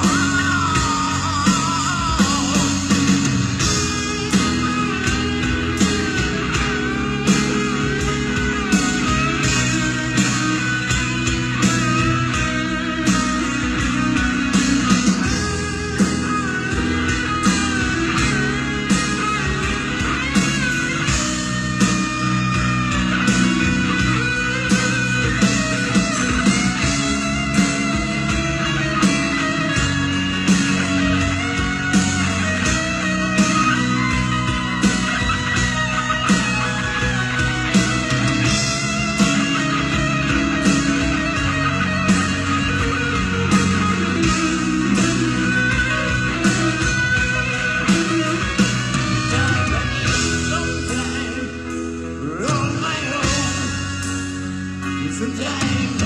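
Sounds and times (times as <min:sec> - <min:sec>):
electric guitar lead: 0:00.0 - 0:56.0
rock band playing a ballad: 0:00.0 - 0:56.0
slow drum beat: 0:00.0 - 0:56.0
sustained bass: 0:00.0 - 0:56.0.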